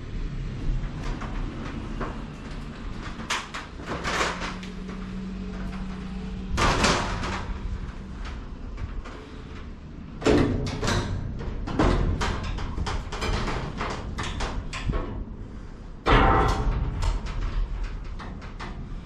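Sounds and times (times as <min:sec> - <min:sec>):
sheet metal rattling and knocking: 0:00.4 - 0:19.0.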